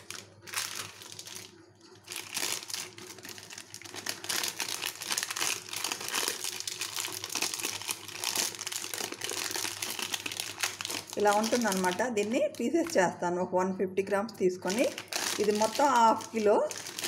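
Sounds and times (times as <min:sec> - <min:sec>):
foil wrapper crinkling: 0:00.0 - 0:13.1, 0:14.6 - 0:17.0.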